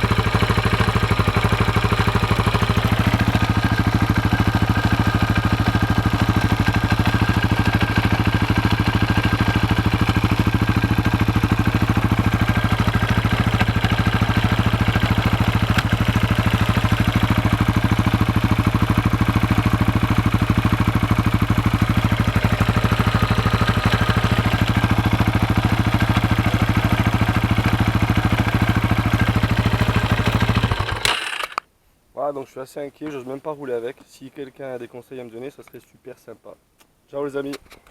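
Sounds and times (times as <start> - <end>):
engine clacking: 0.0 - 31.6
motorcycle engine idling: 0.0 - 31.6.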